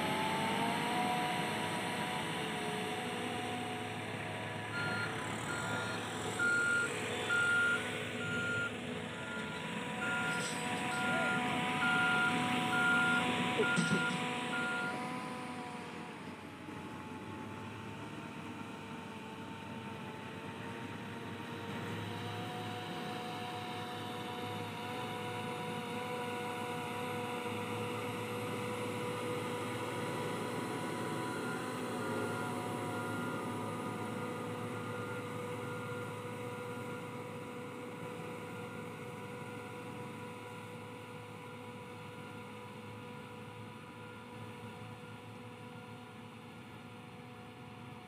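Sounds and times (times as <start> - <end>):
bulldozer diesel engine whine: 0.0 - 48.0.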